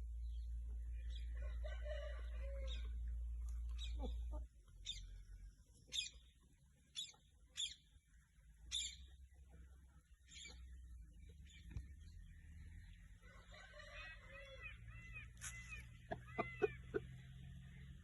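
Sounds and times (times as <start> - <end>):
birds chirping: 0.0 - 18.0
low steady hum: 0.0 - 18.0.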